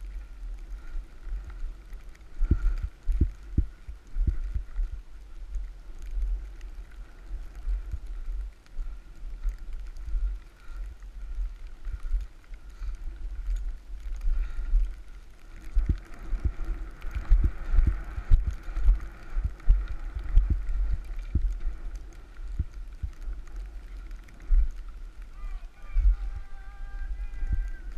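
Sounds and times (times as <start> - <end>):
faint hiss of snow: 0.0 - 27.9
wind buffeting microphone: 0.0 - 27.9.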